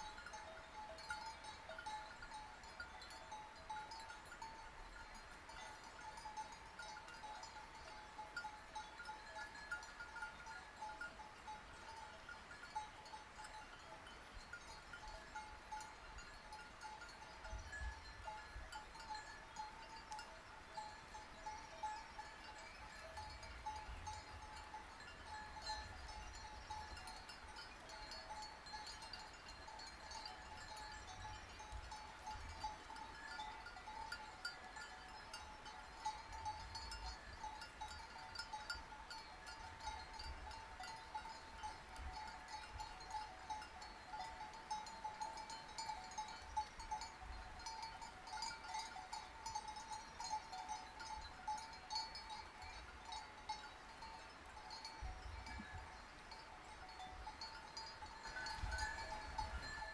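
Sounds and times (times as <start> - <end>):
sheep bells clinking: 0.0 - 59.9.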